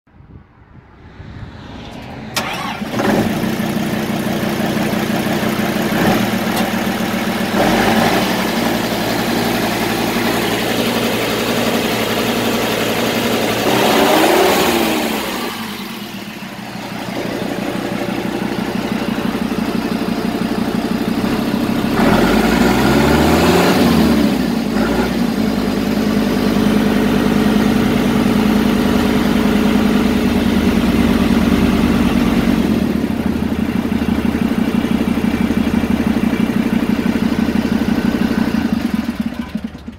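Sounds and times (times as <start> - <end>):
tractor diesel engine idling: 2.3 - 39.9.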